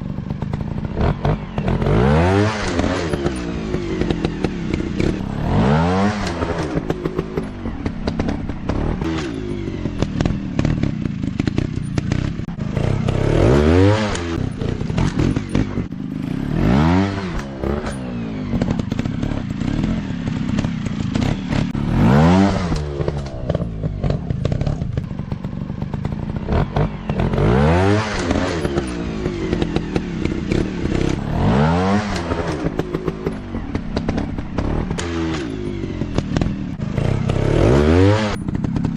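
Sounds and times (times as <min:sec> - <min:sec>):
clatter and scraping: 0:00.0 - 0:38.9
dirt bike engines revving: 0:00.0 - 0:38.9.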